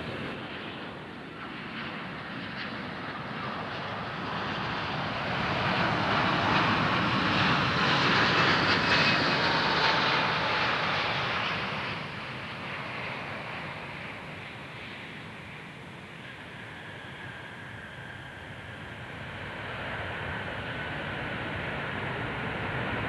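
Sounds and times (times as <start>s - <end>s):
faint jet engine whine: 0.0s - 23.0s
jet engines passing: 0.0s - 23.0s.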